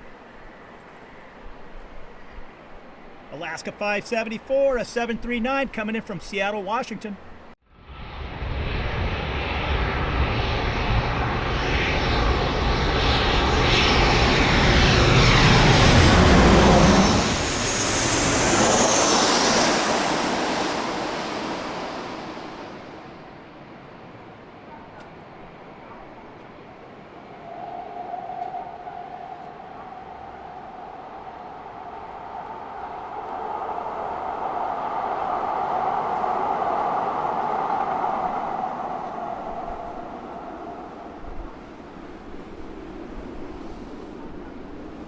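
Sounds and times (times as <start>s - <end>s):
faint high whine: 0.0s - 45.0s
jet engine rushing: 2.9s - 25.9s, 26.9s - 45.0s.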